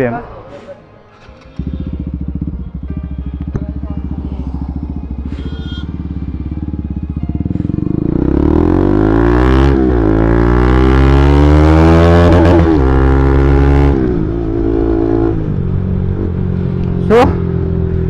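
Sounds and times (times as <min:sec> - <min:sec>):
motorcycle engine revving: 0:01.2 - 0:18.0.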